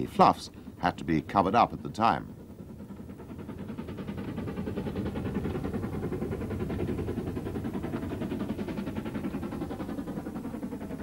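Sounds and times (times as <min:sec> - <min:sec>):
train running rhythmically: 0:00.9 - 0:11.0.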